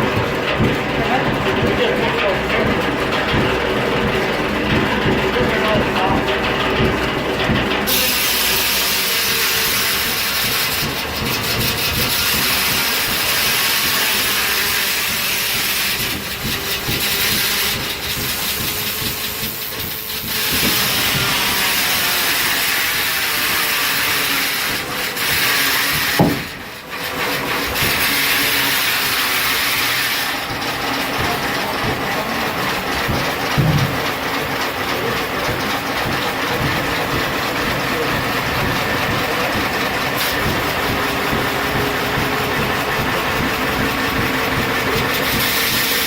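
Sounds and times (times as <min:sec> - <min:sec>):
loud knock: 0:00.0 - 0:14.4, 0:15.6 - 0:23.3, 0:24.2 - 0:26.8, 0:27.6 - 0:46.0
sawmill running: 0:00.0 - 0:46.0.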